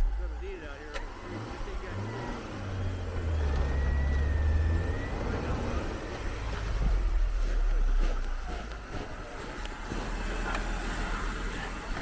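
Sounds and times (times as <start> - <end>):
car engine rumbling under load: 0.0 - 12.0.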